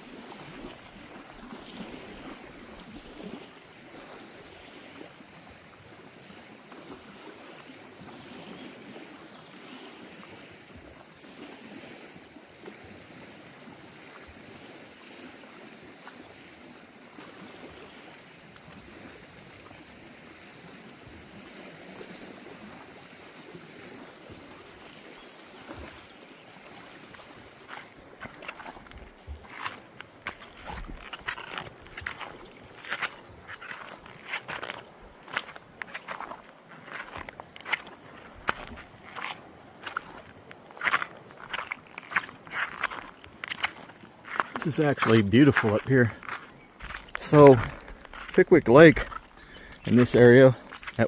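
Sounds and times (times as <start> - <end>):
lake water washing: 0.0 - 51.0
wind: 0.0 - 51.0.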